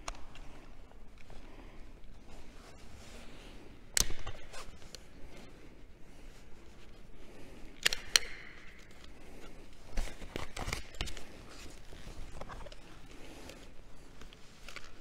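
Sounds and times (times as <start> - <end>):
low hall hum: 0.0 - 15.0.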